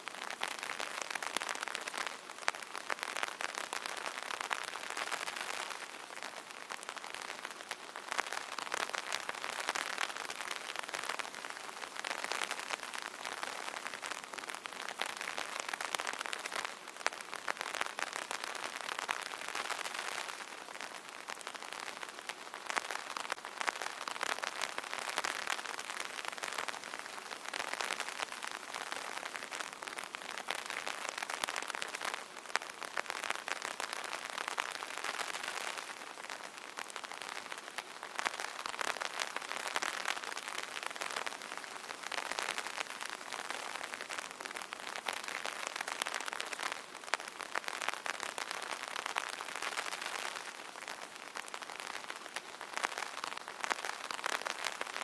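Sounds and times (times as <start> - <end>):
rain pattering on umbrella: 0.0 - 55.0.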